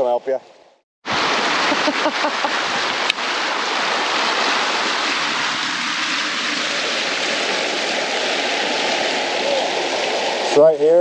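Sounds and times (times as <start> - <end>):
river rushing over rocks: 1.1 - 10.7.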